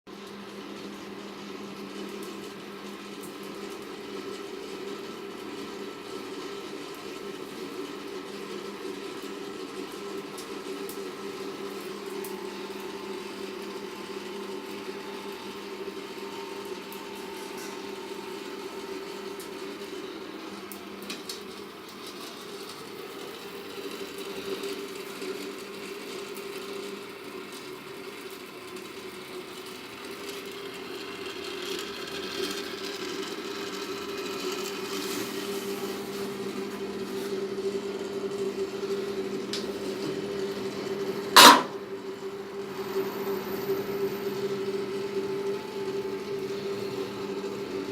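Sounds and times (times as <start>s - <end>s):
mechanical hum: 0.1s - 47.9s.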